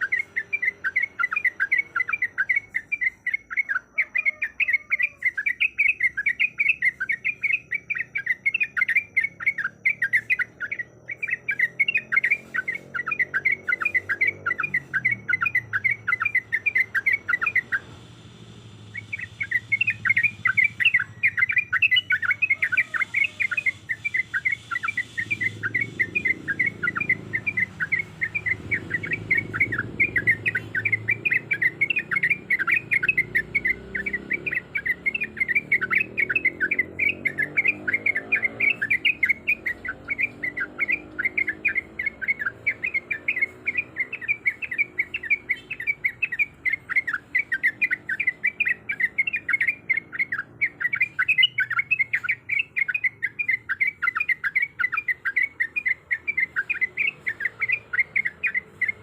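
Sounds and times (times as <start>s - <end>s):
bird singing rolling song: 0.0s - 59.0s.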